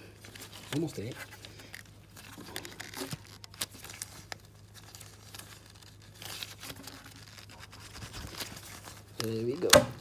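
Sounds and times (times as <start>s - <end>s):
belt scraping and rustling: 0.2s - 10.0s.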